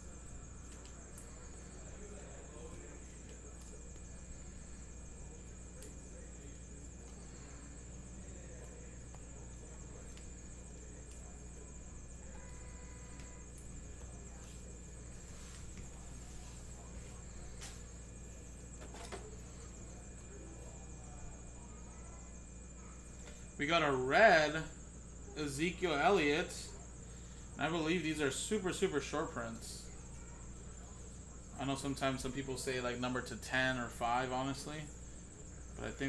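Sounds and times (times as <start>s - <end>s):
electrical hum: 0.0s - 36.0s.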